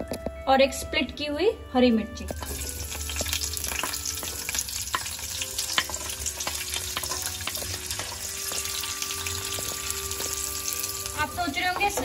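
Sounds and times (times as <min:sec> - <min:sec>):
onions sizzling in hot oil: 0:02.3 - 0:12.0.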